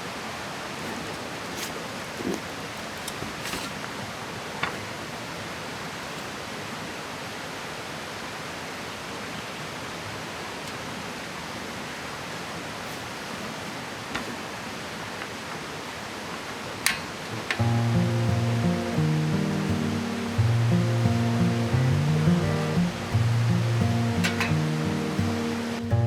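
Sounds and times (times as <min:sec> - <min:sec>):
river flowing: 0:00.0 - 0:26.0.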